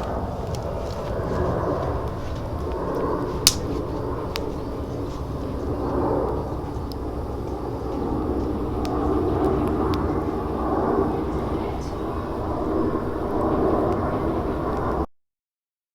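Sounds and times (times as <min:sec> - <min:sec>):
wood fire crackling: 0:00.0 - 0:14.9
low rumble of fire: 0:00.0 - 0:15.1.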